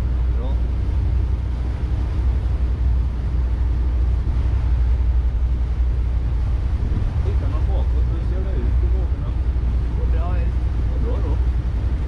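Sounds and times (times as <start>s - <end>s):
boat engines droning: 0.0s - 12.0s.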